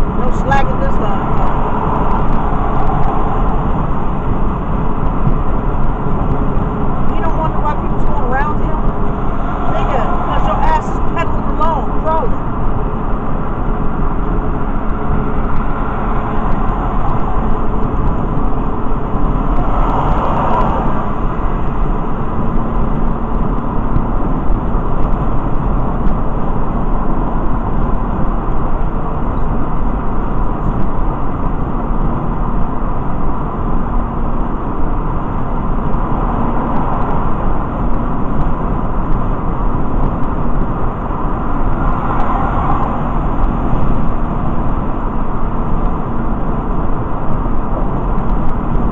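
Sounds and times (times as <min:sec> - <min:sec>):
car road and engine noise: 0:00.0 - 0:48.9.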